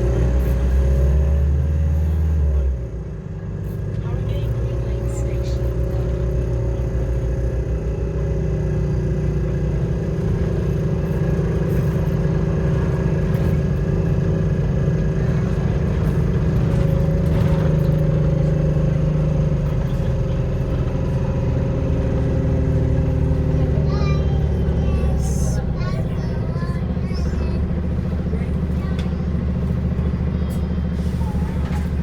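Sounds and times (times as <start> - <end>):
bus droning: 0.0 - 32.0.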